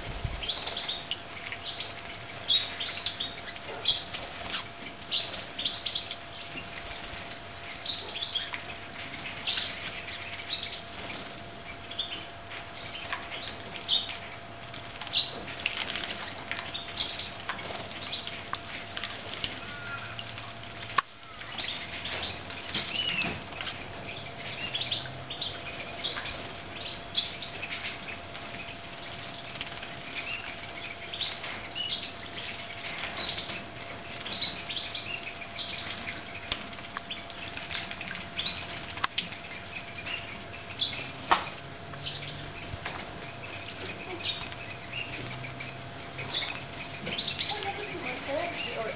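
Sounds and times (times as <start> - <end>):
wings fluttering and splashing: 0.0 - 48.9.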